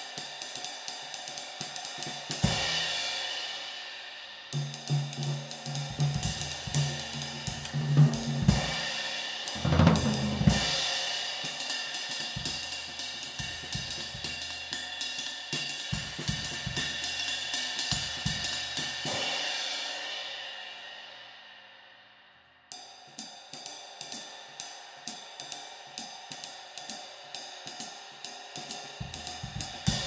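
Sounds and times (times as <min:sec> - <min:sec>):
ride cymbal played with drumstick: 0:00.0 - 0:30.0.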